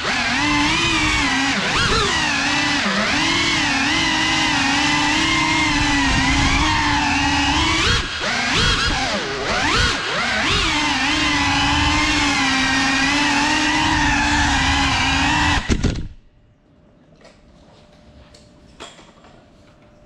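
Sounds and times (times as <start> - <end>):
quadcopter motors whining: 0.0 - 16.2.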